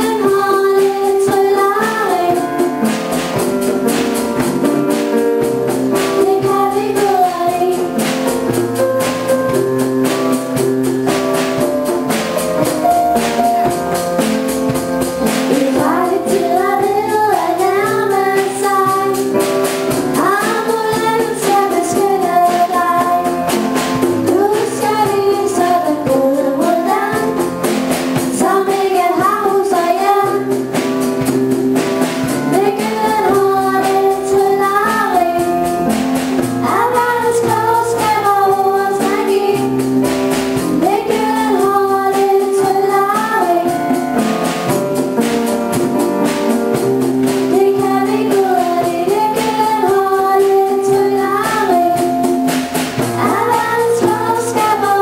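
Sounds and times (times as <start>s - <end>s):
girls singing: 0.0s - 10.7s, 13.2s - 44.8s, 46.1s - 55.0s
instrumental music with steady beat: 0.0s - 55.0s.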